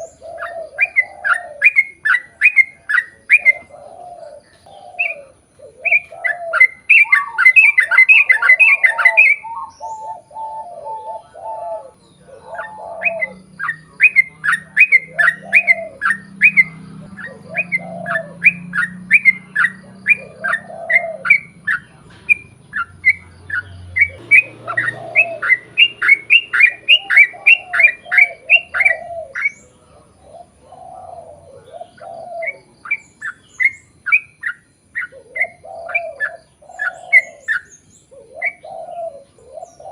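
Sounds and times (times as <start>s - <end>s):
bird chirping rapidly: 0.0s - 39.9s
bird warbling: 0.0s - 39.9s.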